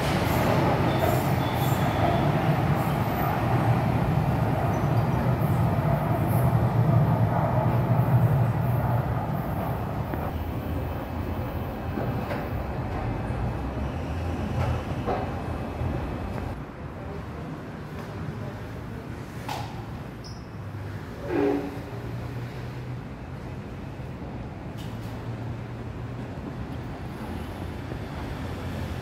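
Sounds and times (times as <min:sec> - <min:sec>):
train rumbling on rails: 0:00.0 - 0:16.9, 0:21.0 - 0:29.0.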